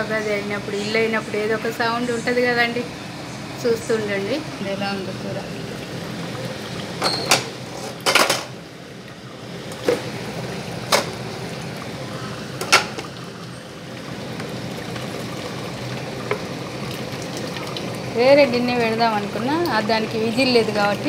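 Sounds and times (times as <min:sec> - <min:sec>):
range hood fan hum: 0:00.0 - 0:21.0.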